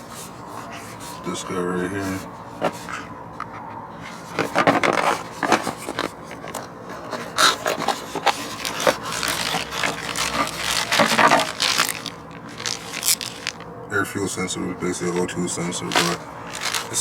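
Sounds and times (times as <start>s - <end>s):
irregular rubbing and scraping: 0.0s - 13.8s, 15.0s - 17.0s.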